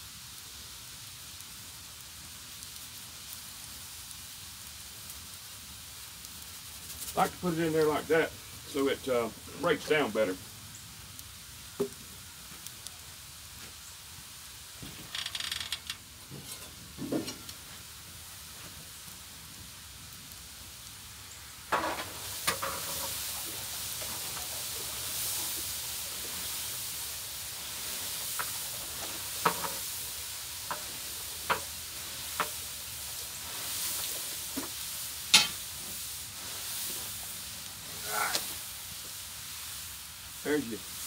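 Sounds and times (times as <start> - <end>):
water boiling with steam hiss: 0.0 - 41.0.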